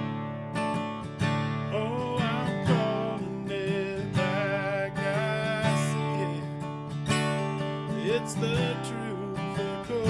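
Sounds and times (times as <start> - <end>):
acoustic guitar strumming: 0.0 - 10.0
man singing: 1.7 - 10.0.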